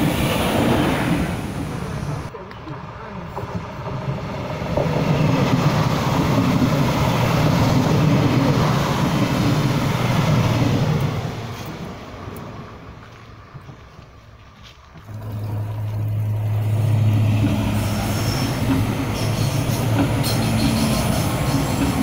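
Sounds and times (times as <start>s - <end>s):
diesel train engines droning: 0.0s - 22.0s
train wheel and rail noise: 0.0s - 22.0s.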